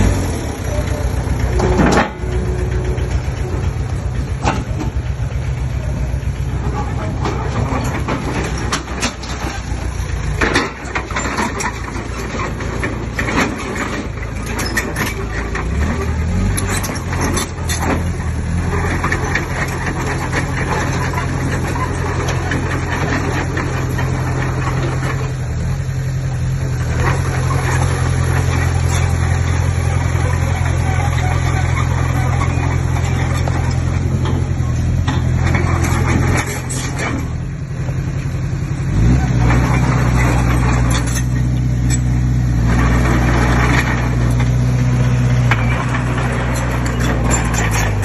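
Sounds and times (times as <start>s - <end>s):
diesel engine under load: 0.0s - 48.0s.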